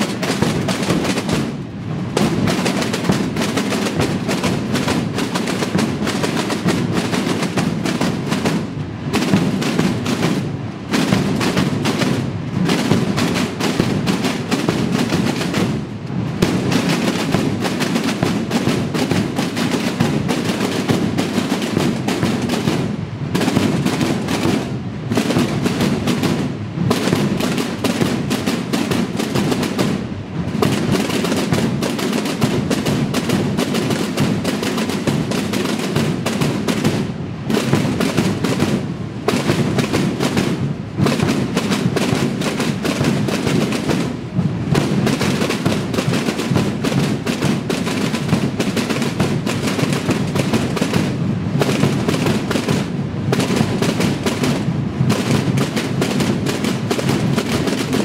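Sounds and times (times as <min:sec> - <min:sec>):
massed snare drums: 0:00.0 - 0:58.0.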